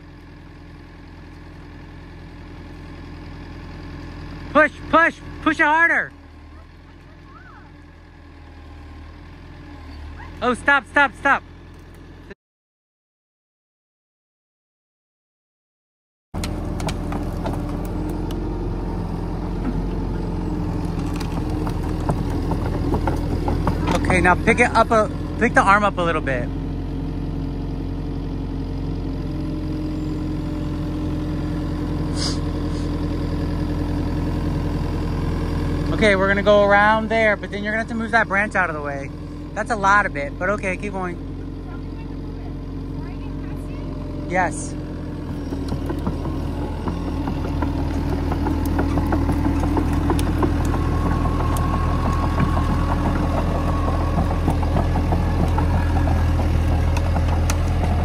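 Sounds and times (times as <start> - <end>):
excavator diesel engine running: 0.0 - 12.4, 16.4 - 58.0.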